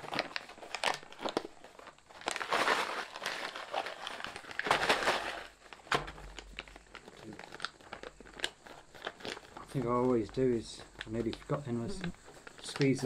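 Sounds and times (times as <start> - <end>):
food pouch crinkling and rustling: 0.0 - 13.0.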